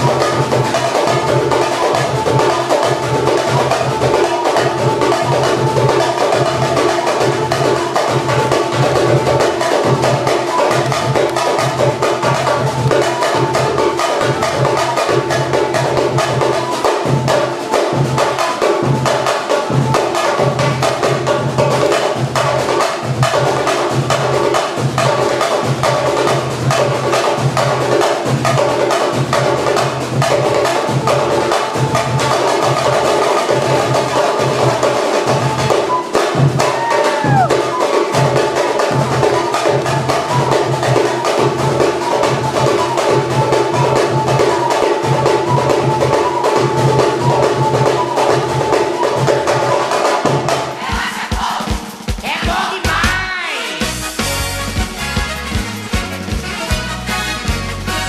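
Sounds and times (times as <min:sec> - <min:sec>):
samba percussion drumming: 0:00.0 - 0:58.0.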